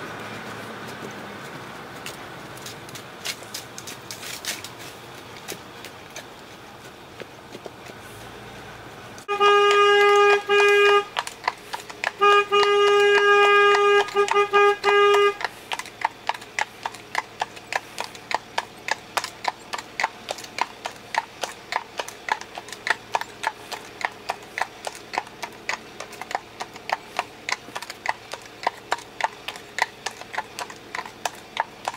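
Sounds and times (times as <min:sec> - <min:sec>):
horse hooves clip-clopping: 0:00.0 - 0:31.9.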